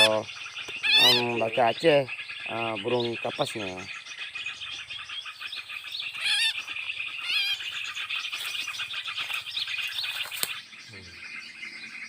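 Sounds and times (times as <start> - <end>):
bird warbling calls: 0.0 - 12.0
small birds chirping: 0.0 - 12.0.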